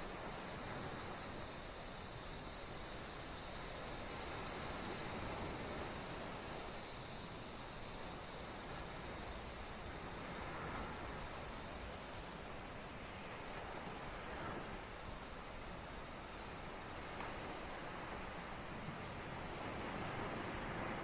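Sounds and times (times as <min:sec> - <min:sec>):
waves washing: 0:00.0 - 0:21.0.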